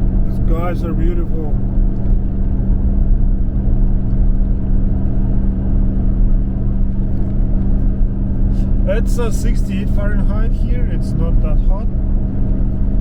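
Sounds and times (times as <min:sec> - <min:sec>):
constant hum: 0:00.0 - 0:13.0
road and engine rumble: 0:00.0 - 0:13.0.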